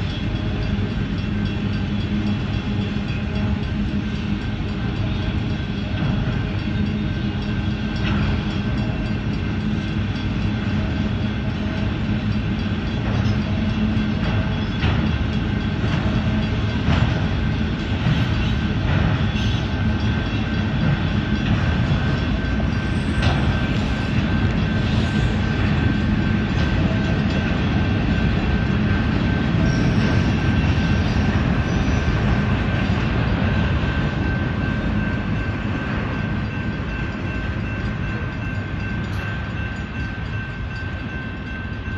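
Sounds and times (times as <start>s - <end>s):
high-pitched wheel ring: 0.0s - 41.9s
train wheels rumbling on rail: 0.0s - 41.9s.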